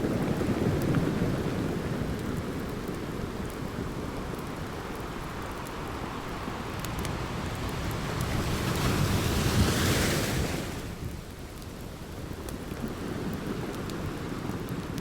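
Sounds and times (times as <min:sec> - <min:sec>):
campfire crackling: 0:00.0 - 0:09.6, 0:10.4 - 0:15.0
ocean surf washing on shore: 0:00.0 - 0:15.0.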